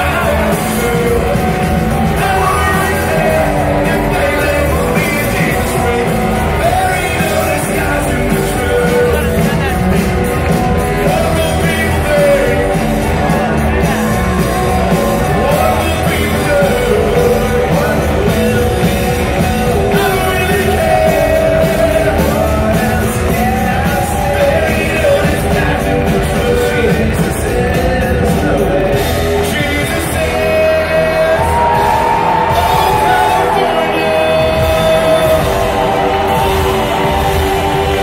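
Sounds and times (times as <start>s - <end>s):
lead vocal singing: 0.0s - 38.0s
live rock band playing: 0.0s - 38.0s.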